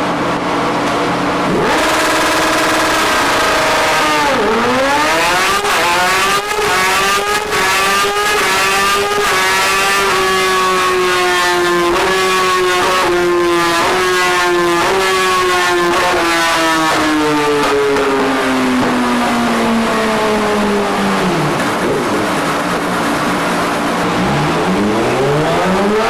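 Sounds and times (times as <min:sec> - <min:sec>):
motorcycle engine revving: 0:01.3 - 0:26.0.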